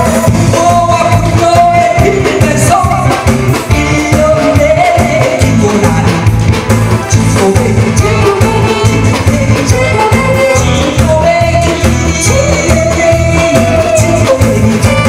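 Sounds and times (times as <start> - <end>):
backing track with steady beat: 0.0 - 15.0
man singing into microphone: 0.0 - 15.0.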